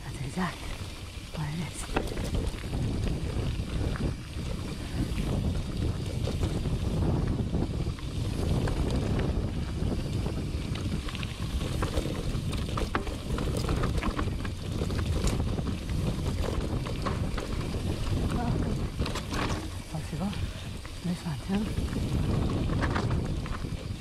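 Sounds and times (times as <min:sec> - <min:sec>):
stones and bike rattling: 0:00.0 - 0:24.0
tyres rolling on gravel: 0:00.0 - 0:24.0
wind buffeting microphone: 0:00.0 - 0:24.0.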